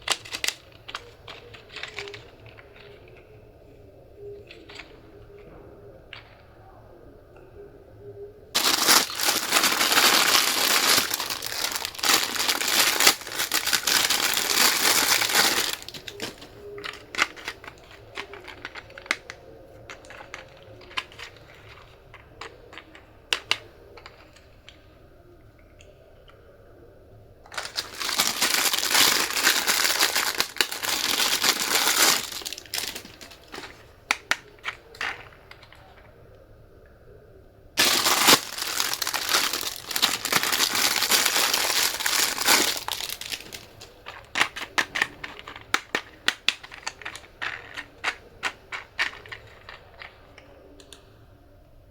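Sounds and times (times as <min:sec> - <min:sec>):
plastic crinkling and crackling: 0:00.0 - 0:03.4, 0:04.4 - 0:05.5, 0:08.5 - 0:24.8, 0:27.5 - 0:36.1, 0:37.8 - 0:51.1.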